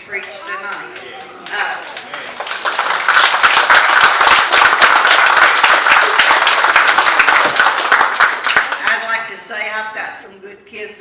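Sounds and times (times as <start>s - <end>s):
congregation clapping: 0.2s - 9.0s.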